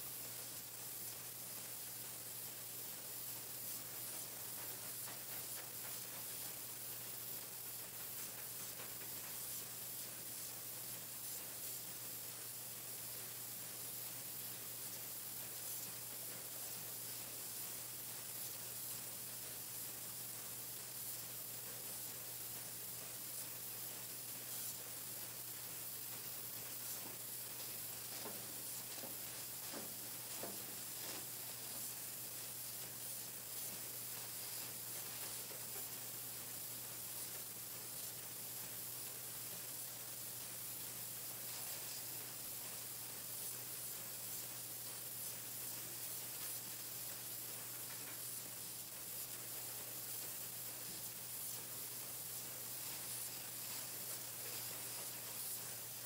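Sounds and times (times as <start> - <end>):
machine hissing: 0.0 - 56.0.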